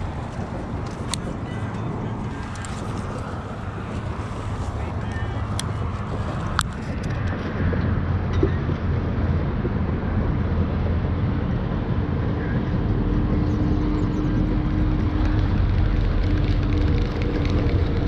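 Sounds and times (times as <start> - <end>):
low engine drone: 0.0 - 18.0
wind rumbling on microphone: 0.0 - 18.0.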